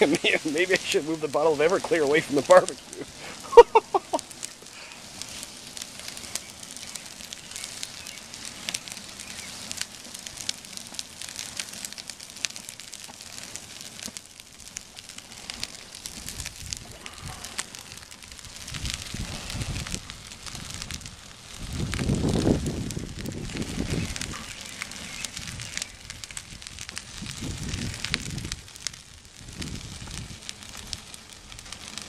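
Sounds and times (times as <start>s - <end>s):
flames crackling and snapping: 0.0s - 32.0s.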